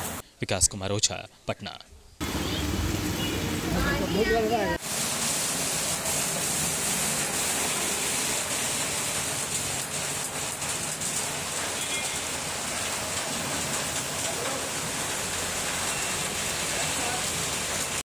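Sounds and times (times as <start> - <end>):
rain falling on standing water: 2.2 - 18.0.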